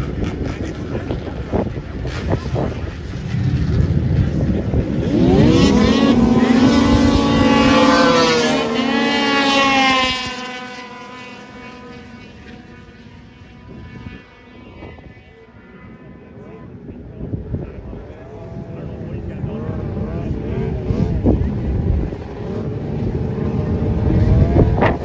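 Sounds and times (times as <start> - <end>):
snowmobile engines whining: 0.0 - 25.0.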